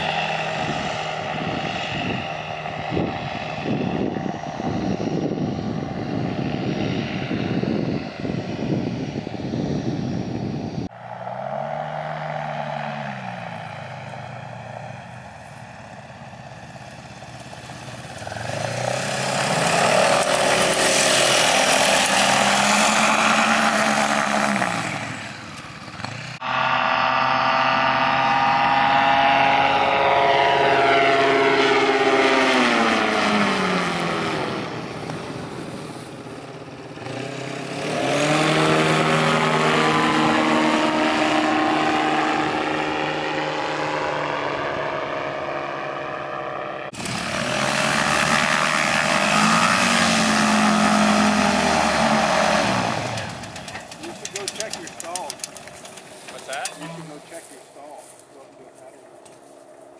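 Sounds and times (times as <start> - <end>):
ultralight plane engine and propeller: 0.0 - 59.9.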